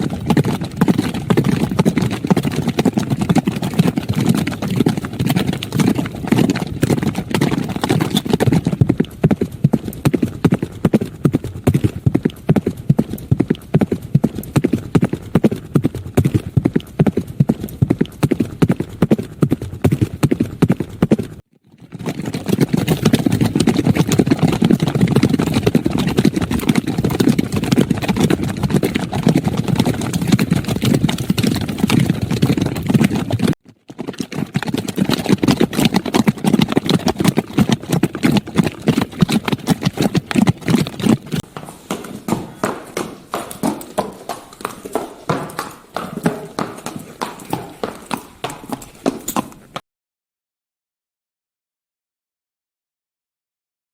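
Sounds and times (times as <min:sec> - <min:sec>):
horse hooves clip-clopping: 0:00.0 - 0:49.8.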